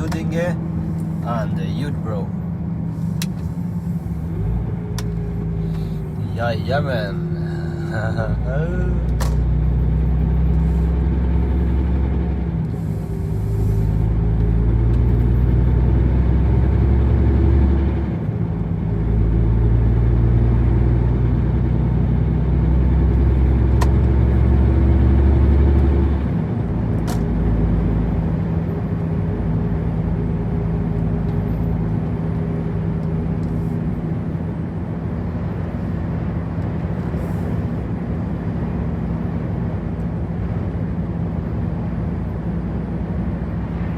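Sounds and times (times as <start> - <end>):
road noise: 0.0 - 43.9
truck engine droning: 0.0 - 43.9.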